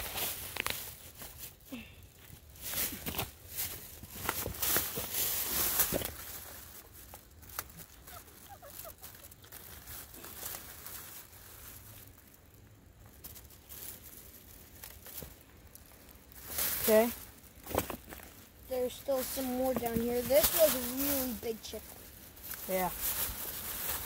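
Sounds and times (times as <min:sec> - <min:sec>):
dry leaves rustling: 0:00.0 - 0:24.0
rotten wood crackling: 0:00.0 - 0:24.0.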